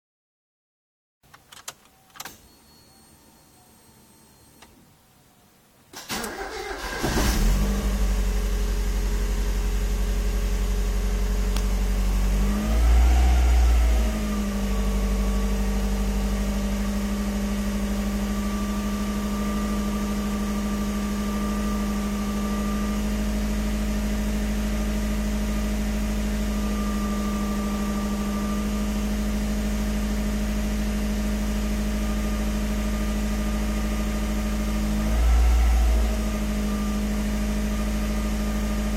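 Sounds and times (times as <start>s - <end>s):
car engine starting and idling: 5.9s - 38.9s
engine revving: 6.2s - 38.9s.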